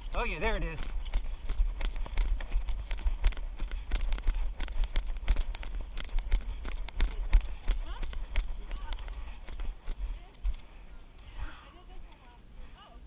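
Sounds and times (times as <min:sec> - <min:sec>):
running footsteps on wet mud: 0:00.0 - 0:10.7
steady low rumble: 0:00.0 - 0:12.7.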